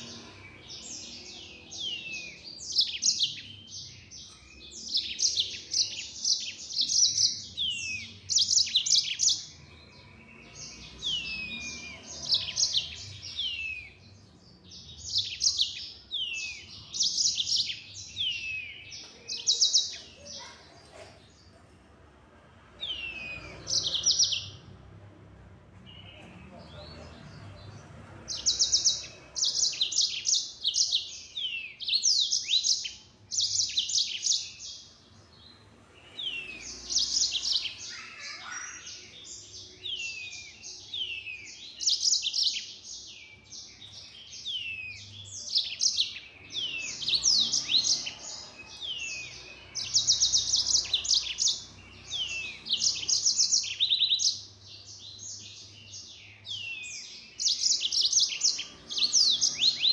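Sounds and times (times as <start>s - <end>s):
canary singing trills: 0.0s - 21.6s, 22.7s - 25.0s, 25.8s - 59.9s.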